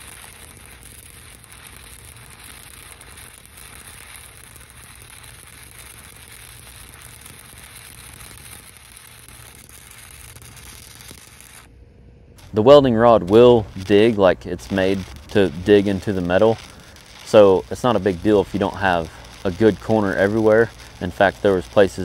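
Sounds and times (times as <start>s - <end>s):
welding arc hissing: 0.0s - 11.7s, 12.4s - 22.0s.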